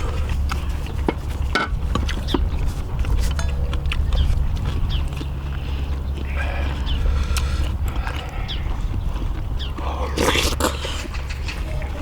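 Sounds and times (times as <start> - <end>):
people chewing: 0.0 - 12.0
steady low rumble: 0.0 - 12.0.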